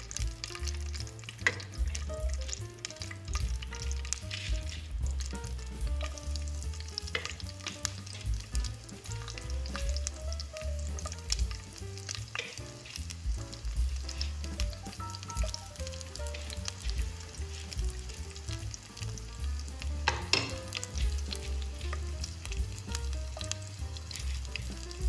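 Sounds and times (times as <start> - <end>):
background music: 0.0 - 25.0
garlic sizzling in hot oil: 0.0 - 25.0.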